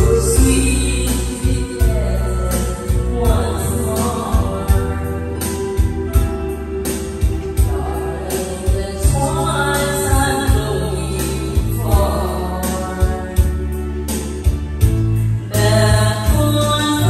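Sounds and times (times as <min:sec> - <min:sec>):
girl singing into microphone: 0:00.0 - 0:13.7, 0:15.5 - 0:17.0
karaoke backing track: 0:00.0 - 0:17.0.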